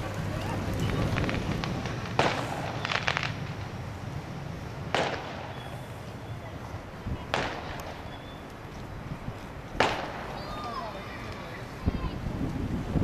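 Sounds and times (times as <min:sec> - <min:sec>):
fireworks banging: 0:00.0 - 0:13.0
fireworks crackling: 0:00.0 - 0:13.0.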